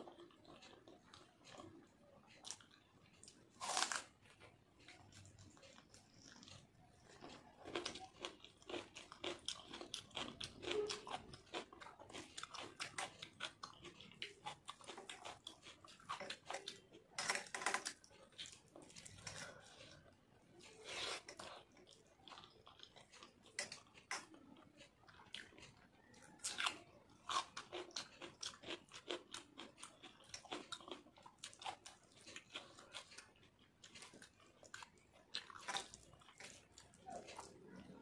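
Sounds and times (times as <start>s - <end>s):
person chewing with clicking mouth: 0.0s - 38.0s.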